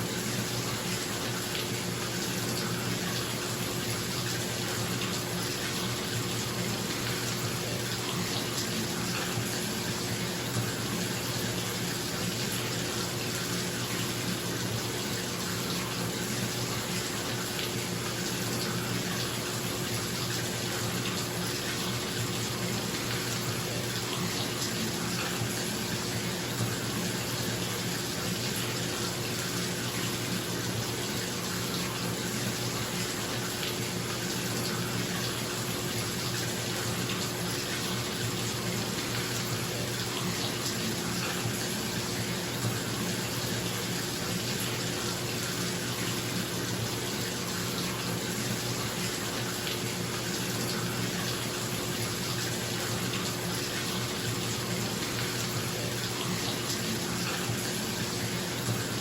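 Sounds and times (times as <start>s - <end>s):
bathtub tap running water: 0.0s - 59.0s.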